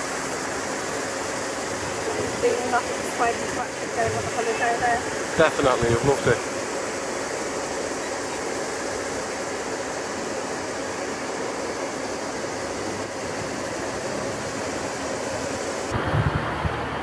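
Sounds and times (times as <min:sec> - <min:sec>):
outdoor ambient hiss: 0:00.0 - 0:17.0.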